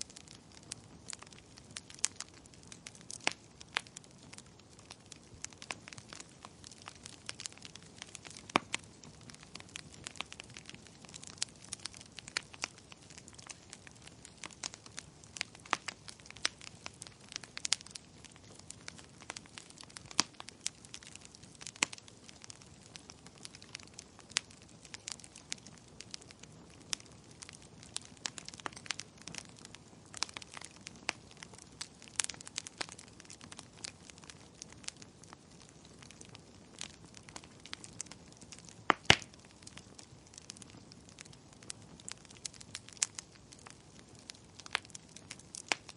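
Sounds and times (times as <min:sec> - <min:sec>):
soft fire hiss: 0:00.0 - 0:45.9
wood fire crackling and popping: 0:00.0 - 0:45.9.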